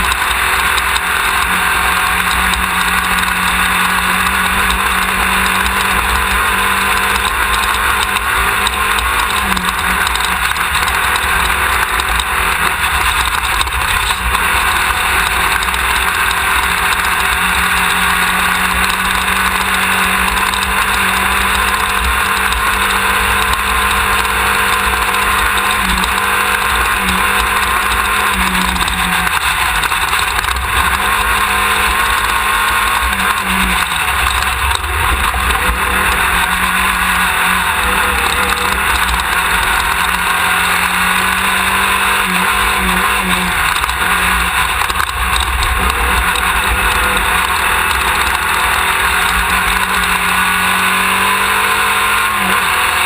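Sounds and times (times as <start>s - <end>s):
buggy engine droning: 0.0s - 53.0s.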